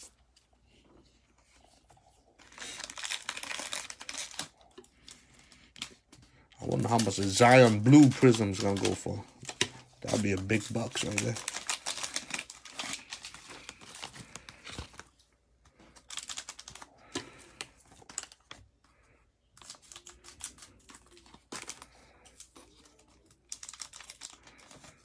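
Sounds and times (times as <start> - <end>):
plastic wrapper crinkling: 1.7 - 18.8, 19.5 - 25.0.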